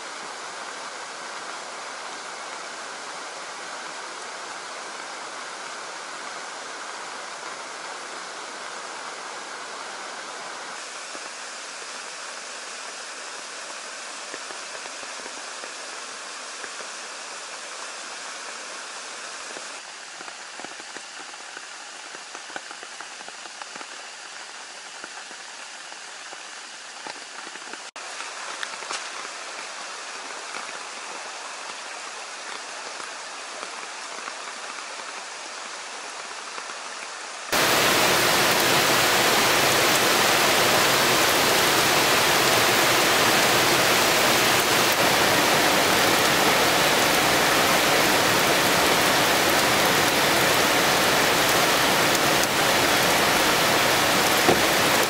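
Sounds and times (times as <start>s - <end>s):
stream rushing: 0.0s - 20.8s, 24.1s - 55.0s
heavy downpour hammering on ground: 0.0s - 55.0s
steady rain: 0.0s - 55.0s.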